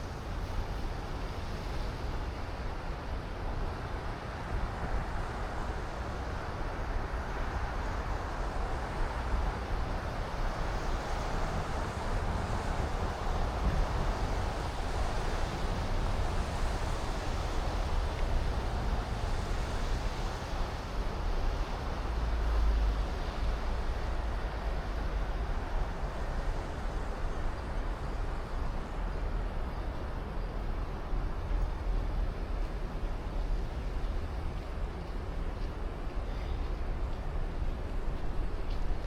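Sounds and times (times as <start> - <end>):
traffic noise: 3.5 - 39.0.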